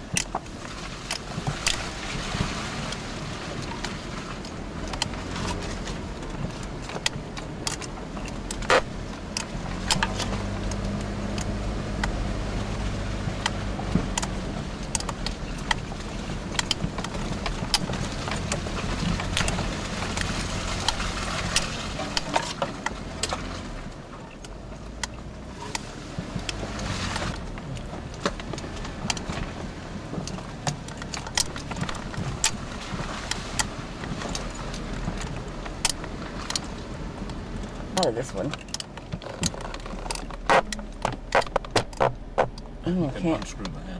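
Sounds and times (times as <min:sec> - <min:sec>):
rattles and knocks of vehicle body: 0:00.0 - 0:43.9.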